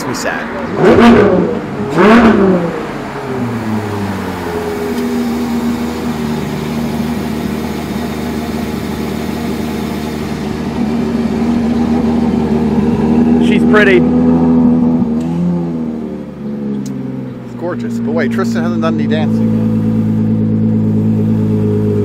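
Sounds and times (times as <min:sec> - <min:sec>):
car engines idling: 0:00.0 - 0:22.0.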